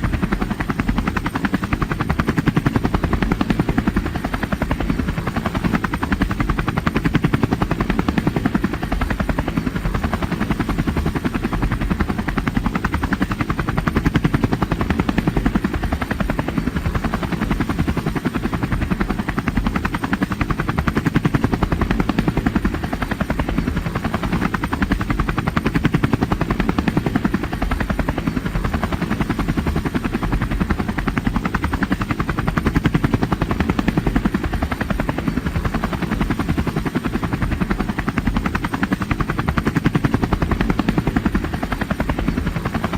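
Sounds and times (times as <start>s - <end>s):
helicopter rotor blades thudding: 0.0s - 42.9s.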